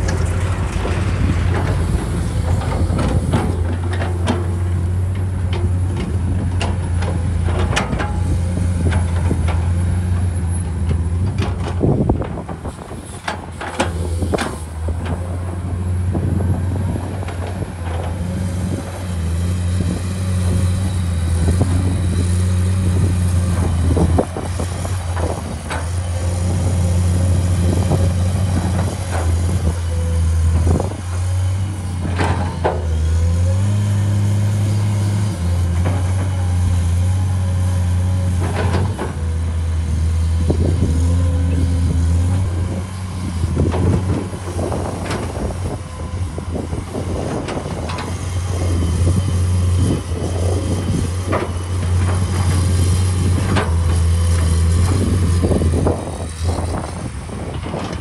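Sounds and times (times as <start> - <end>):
excavator diesel engine working: 0.0 - 58.0.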